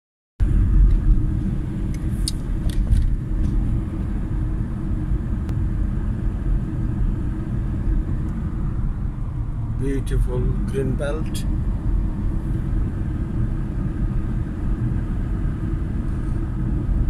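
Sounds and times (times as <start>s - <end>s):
car engine and tyre noise: 0.4s - 17.0s.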